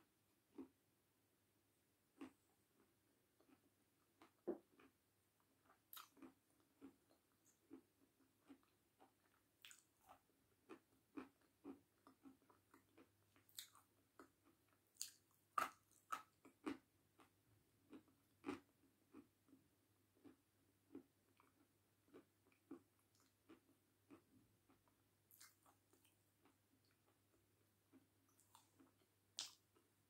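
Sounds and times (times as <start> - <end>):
person chewing crunchy food: 0.5 - 0.8, 2.2 - 29.9.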